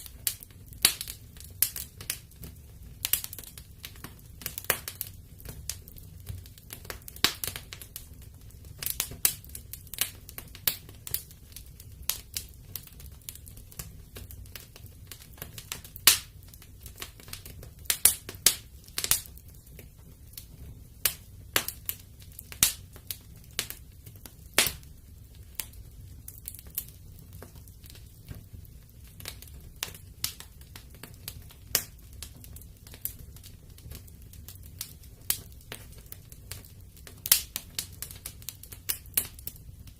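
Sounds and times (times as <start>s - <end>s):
burning logs popping and snapping: 0.0s - 39.9s
low rumble of flames: 0.0s - 39.9s.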